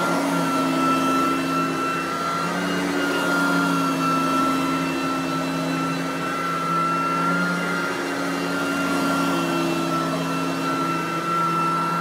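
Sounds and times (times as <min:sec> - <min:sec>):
vacuum cleaner on carpet: 0:00.0 - 0:12.0.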